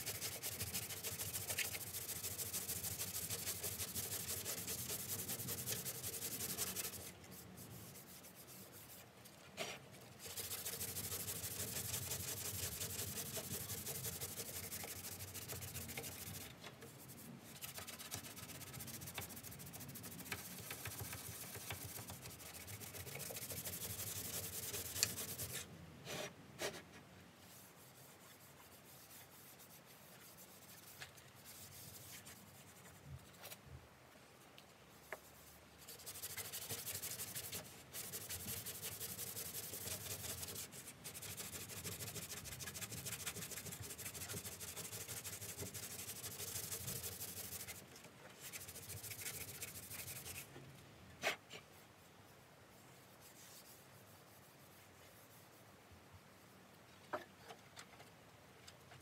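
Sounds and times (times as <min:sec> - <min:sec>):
sandpaper rubbing on metal: 0:00.0 - 0:09.0, 0:10.2 - 0:25.7, 0:27.5 - 0:33.0, 0:35.3 - 0:47.8, 0:48.4 - 0:50.5, 0:53.0 - 0:55.6.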